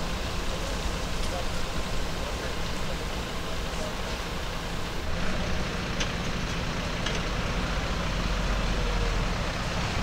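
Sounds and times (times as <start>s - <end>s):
pickup truck engine: 0.0s - 10.0s.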